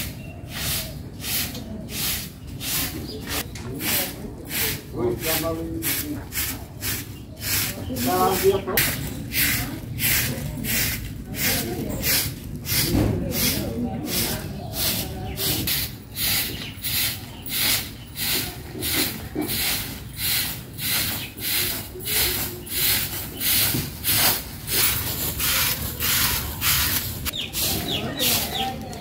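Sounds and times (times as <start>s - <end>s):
broom sweeping dirt: 0.0s - 28.9s.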